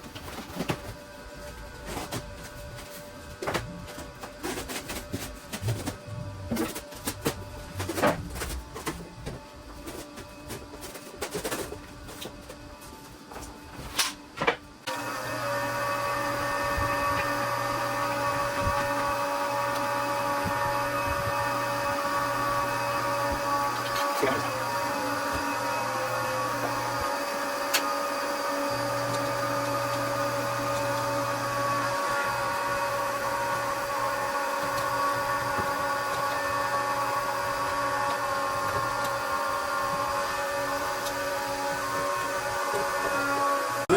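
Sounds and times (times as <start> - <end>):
pump motor humming with whine: 0.0 - 43.9.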